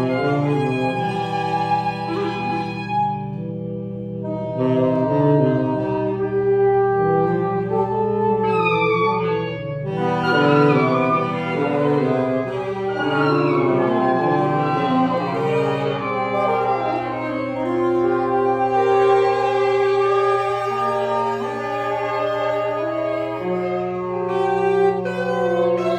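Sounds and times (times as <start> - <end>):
free jazz reed instruments: 0.0 - 25.9
squealing saxophone line: 0.0 - 25.9.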